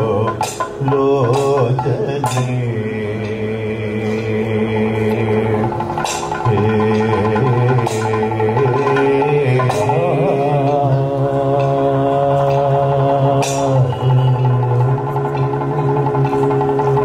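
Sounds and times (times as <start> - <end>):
men chanting melodically: 0.0 - 17.0
sharp percussive strikes: 0.0 - 17.0
steady drone: 0.0 - 17.0.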